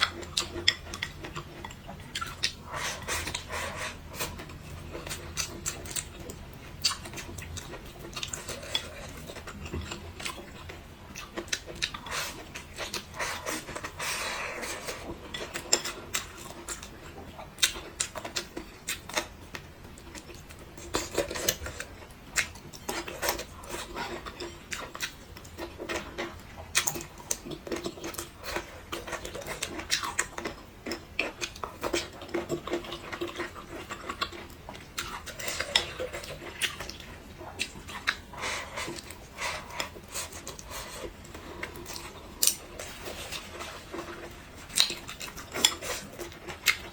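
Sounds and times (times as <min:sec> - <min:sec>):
chewing: 0:00.0 - 0:46.9.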